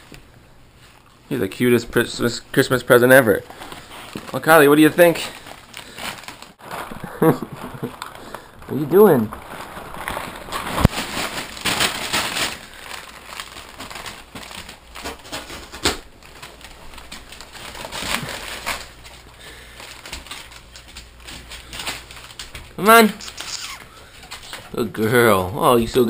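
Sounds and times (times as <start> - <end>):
wrapping paper crinkling and tearing: 2.6 - 24.8.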